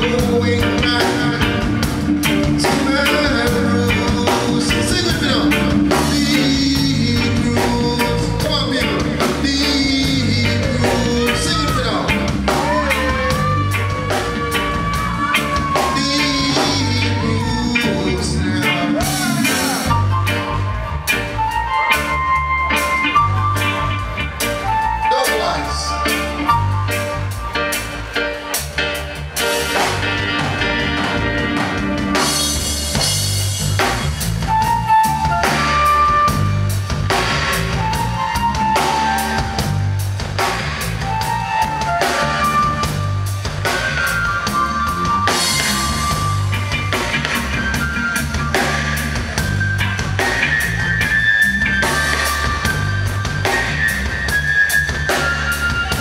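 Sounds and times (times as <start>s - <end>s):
steady drum beat: 0.0s - 25.6s, 26.4s - 56.0s
live band playing: 0.0s - 56.0s
repeating bass line: 0.0s - 56.0s.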